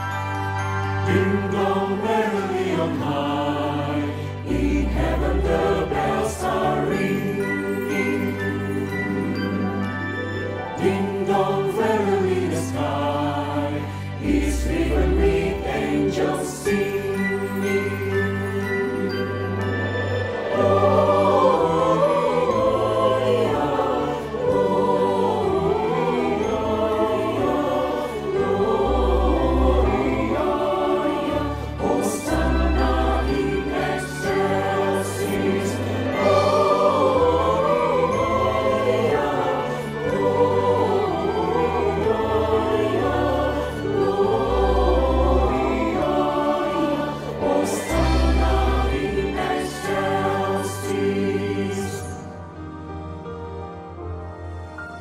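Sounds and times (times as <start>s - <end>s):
choir singing a carol: 0.0s - 52.7s.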